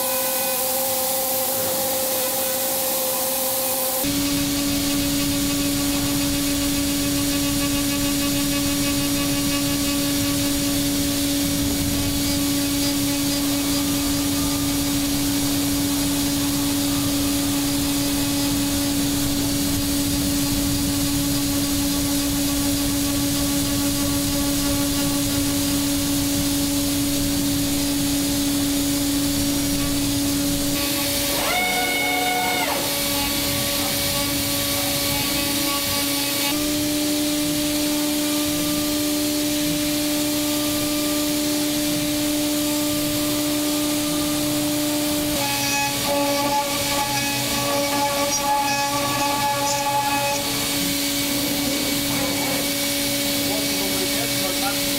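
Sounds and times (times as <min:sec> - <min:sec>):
milling machine whine: 0:00.0 - 0:54.9.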